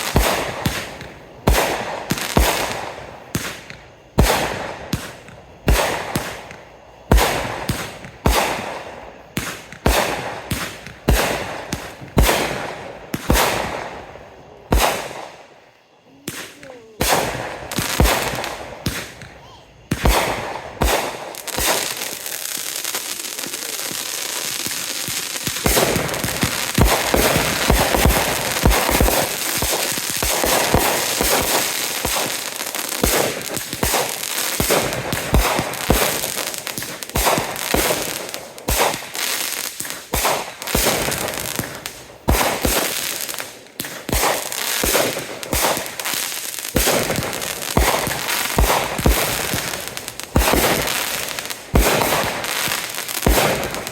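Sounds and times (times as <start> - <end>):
fireworks crackling and banging: 0.0 - 53.9.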